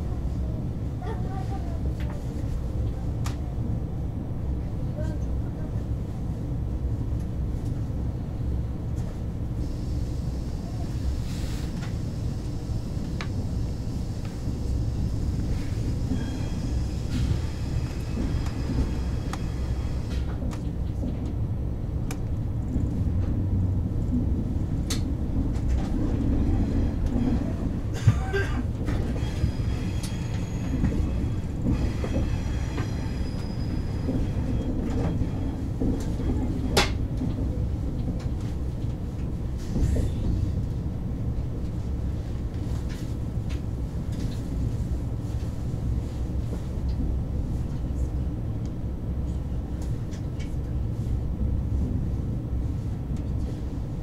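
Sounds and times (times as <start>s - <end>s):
train cabin low rumble: 0.0s - 54.0s.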